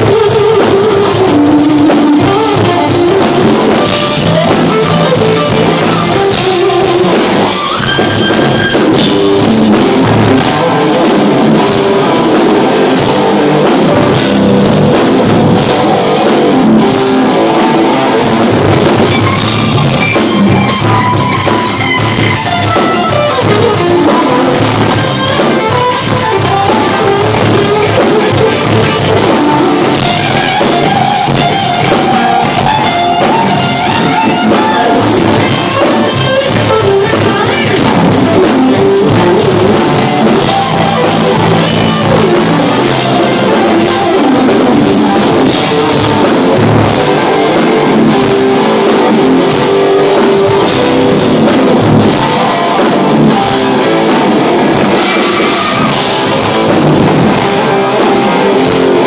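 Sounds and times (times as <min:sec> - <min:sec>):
bass guitar: 0:00.0 - 0:59.0
drum kit: 0:00.0 - 0:59.0
lead electric guitar: 0:00.0 - 0:59.0
rhythm guitar: 0:00.0 - 0:59.0.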